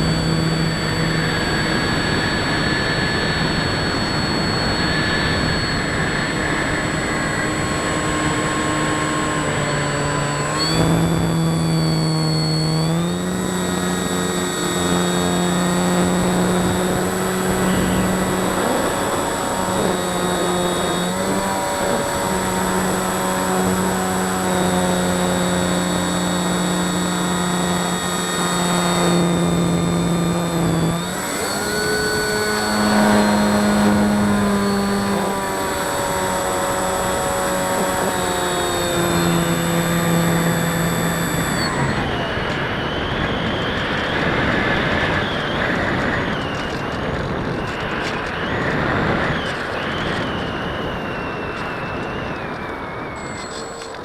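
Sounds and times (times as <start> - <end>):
model airplane motor whining: 0.0 - 54.0.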